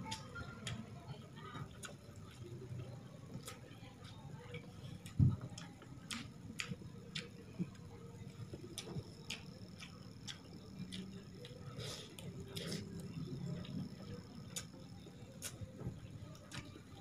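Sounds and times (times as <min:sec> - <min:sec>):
mouth chewing: 0:01.7 - 0:15.7.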